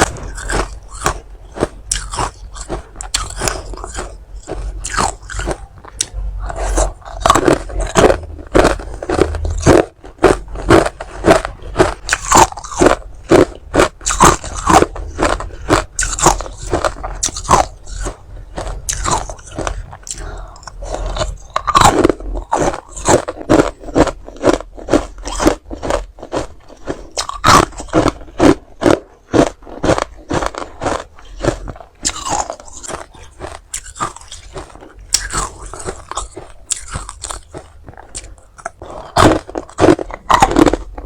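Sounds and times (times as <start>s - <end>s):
chewing hard ice: 0.0s - 41.0s.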